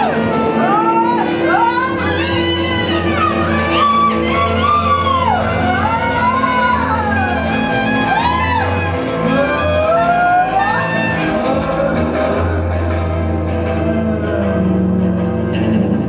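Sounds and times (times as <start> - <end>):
trumpet: 0.0 - 13.0
low bass drone: 0.0 - 16.0
sliding wavering lead melody: 0.0 - 16.0.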